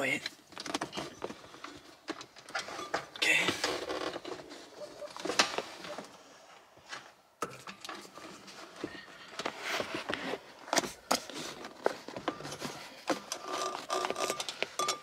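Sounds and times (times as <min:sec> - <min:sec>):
cable rustling and scraping: 0:00.3 - 0:15.0.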